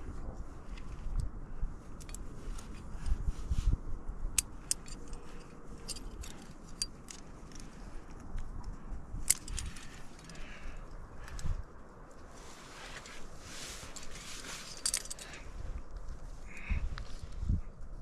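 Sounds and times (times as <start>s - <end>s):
climbing gear clinking: 0.0s - 17.8s.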